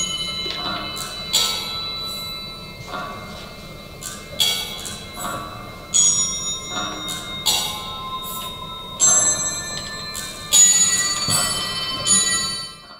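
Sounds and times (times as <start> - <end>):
bell-like chimes: 0.0 - 12.9.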